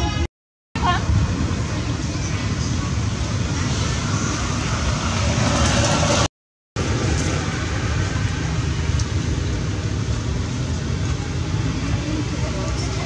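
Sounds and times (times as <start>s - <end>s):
outdoor background rumble and hiss: 0.8s - 13.0s.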